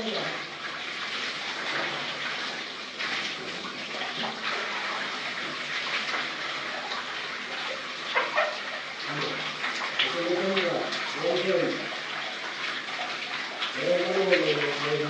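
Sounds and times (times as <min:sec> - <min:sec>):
shower water running: 0:00.0 - 0:15.0.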